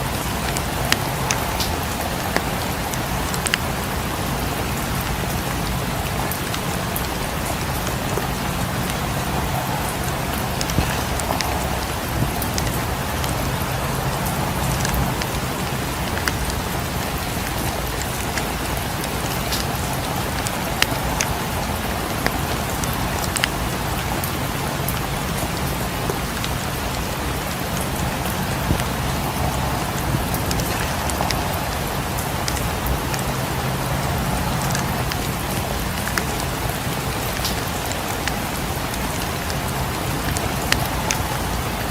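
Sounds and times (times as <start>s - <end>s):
steady rain falling: 0.0s - 41.9s
wood fire crackling: 0.0s - 41.9s.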